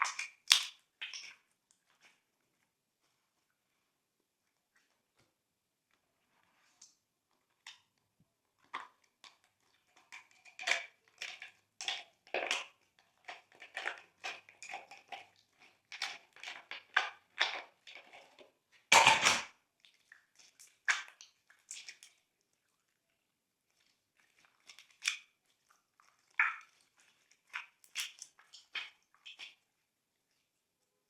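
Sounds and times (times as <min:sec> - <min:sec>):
slime squishing with wet crackles: 0:00.0 - 0:31.0.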